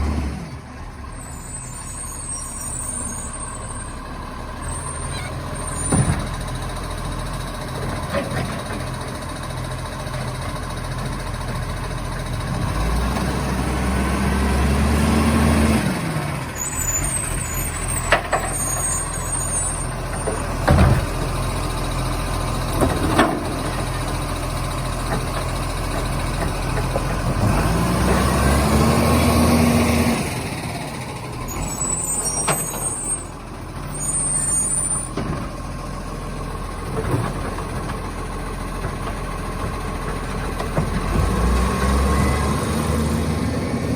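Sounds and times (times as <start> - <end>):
garbage truck engine revving: 0.0 - 43.9.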